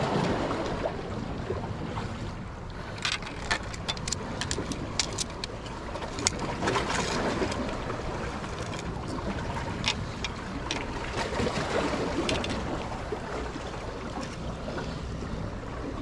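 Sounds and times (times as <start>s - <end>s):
water at the shore: 0.0s - 16.0s
wind: 0.0s - 16.0s.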